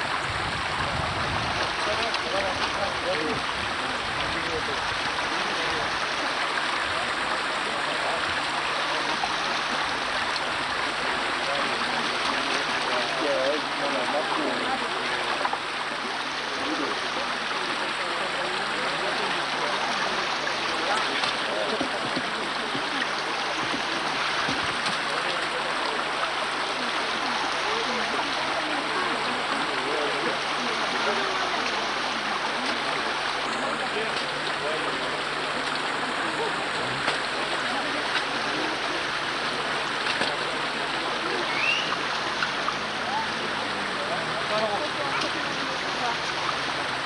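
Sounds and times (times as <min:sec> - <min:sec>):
faint voices: 0:00.0 - 0:47.0
stream flowing over rocks: 0:00.0 - 0:47.0.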